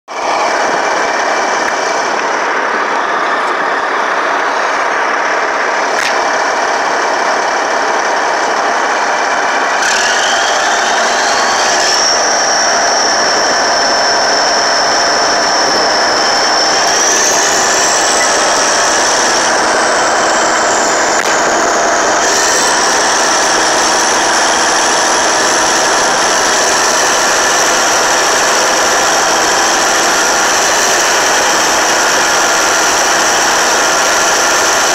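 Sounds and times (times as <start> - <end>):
bulldozer diesel engine running: 0.1 - 34.9
high whine rising in pitch: 0.1 - 34.9.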